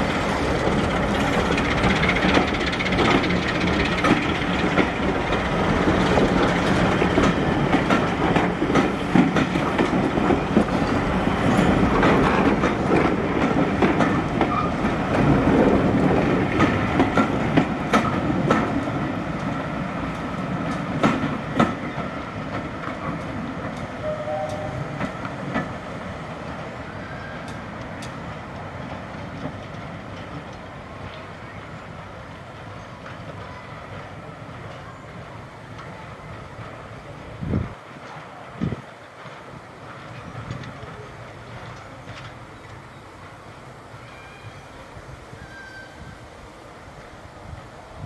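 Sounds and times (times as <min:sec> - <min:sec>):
train wheels clicking over rail joints: 0:00.0 - 0:43.8.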